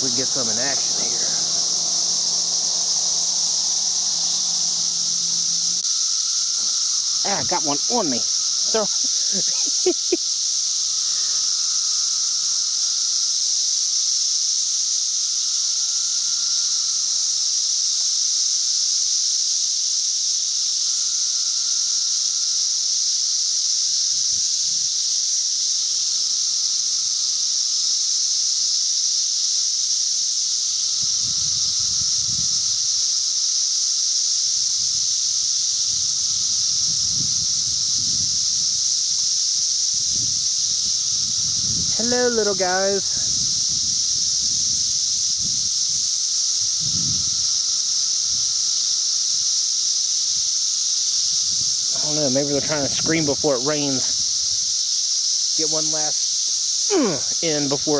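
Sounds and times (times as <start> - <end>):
cicada droning call: 0.0 - 57.9
cicadas high-pitched hiss: 0.0 - 57.9.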